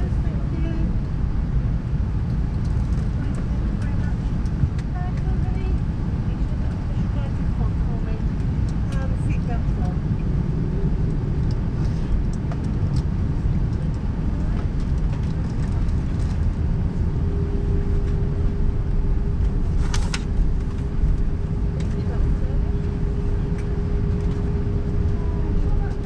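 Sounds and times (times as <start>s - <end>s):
low rumble in aircraft cabin: 0.0s - 26.0s
steady hum: 0.0s - 26.0s.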